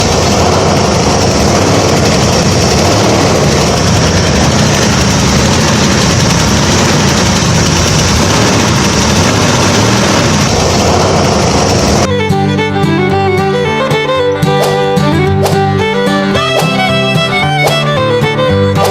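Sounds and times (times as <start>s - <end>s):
fiddle music: 0.0s - 18.9s
small engine whining: 0.0s - 18.9s.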